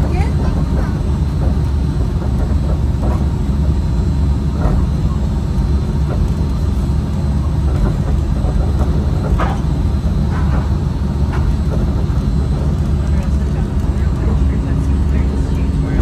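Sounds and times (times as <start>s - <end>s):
monorail train rumbling: 0.0s - 16.0s.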